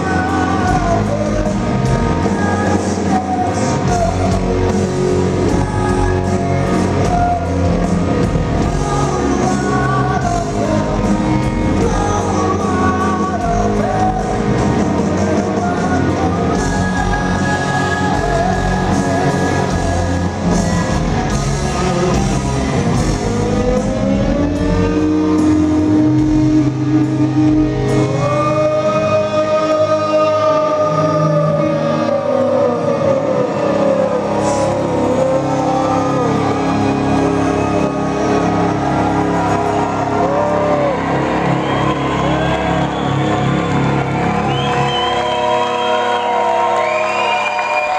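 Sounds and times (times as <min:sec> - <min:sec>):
live rock band playing: 0:00.0 - 0:47.9
long sliding guitar notes: 0:00.0 - 0:47.9.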